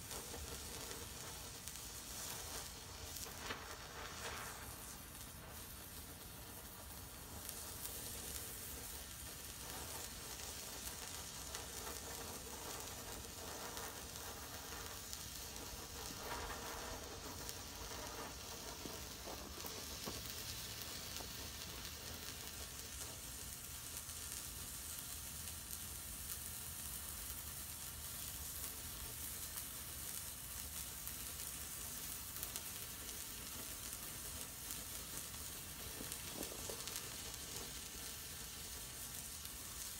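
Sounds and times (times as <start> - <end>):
flare burning with sizzling hiss: 0.0 - 39.9.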